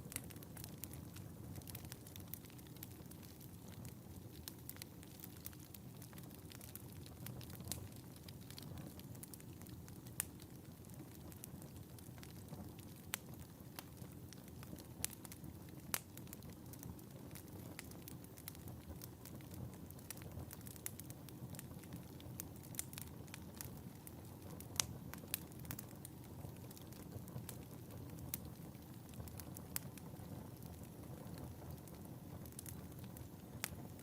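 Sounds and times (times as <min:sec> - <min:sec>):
fire crackles and snaps: 0:00.0 - 0:34.0
fire flames rumbling: 0:00.0 - 0:34.0.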